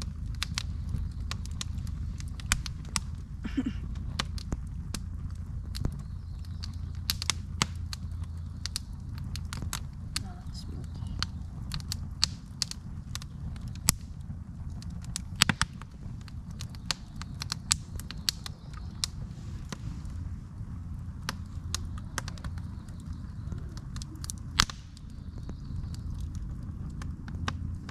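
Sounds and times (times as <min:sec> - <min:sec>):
campfire crackling: 0:00.0 - 0:27.9
fire snaps and pops: 0:00.0 - 0:27.9
low steady rumble: 0:00.0 - 0:27.9.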